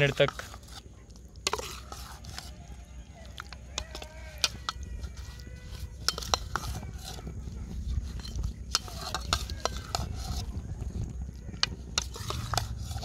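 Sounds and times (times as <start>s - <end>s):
spoon scraping ceramic bowl: 0.0s - 11.0s, 11.6s - 13.0s
spoon stirring wet food: 0.0s - 13.0s.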